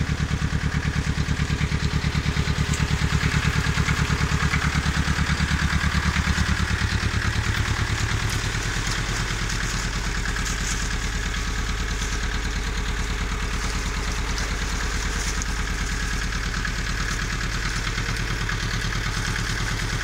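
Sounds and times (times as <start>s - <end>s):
engine running with low pulse: 0.0s - 20.0s
water churning and splashing: 2.2s - 20.0s.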